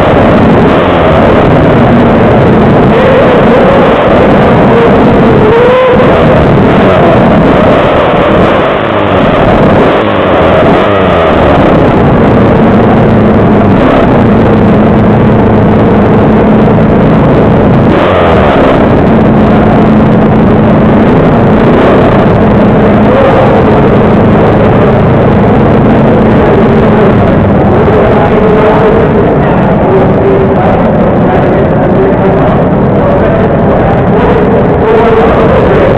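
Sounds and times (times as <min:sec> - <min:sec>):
pit bike engines racing: 0:00.0 - 0:35.9.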